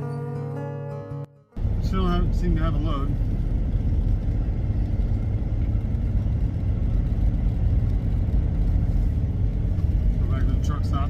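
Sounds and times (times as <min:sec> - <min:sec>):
vehicle engine and road rumble: 0:01.6 - 0:11.0.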